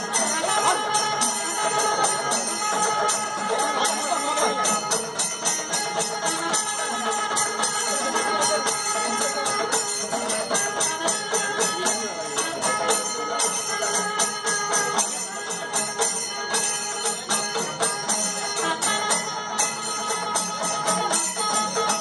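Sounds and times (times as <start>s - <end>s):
music with jingling bells: 0.0s - 22.0s
sharp percussion strikes: 0.0s - 22.0s.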